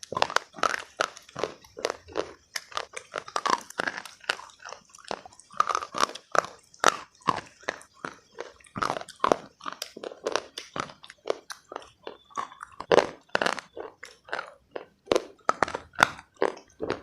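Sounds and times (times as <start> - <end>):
crisp crunchy chewing: 0.0 - 17.0.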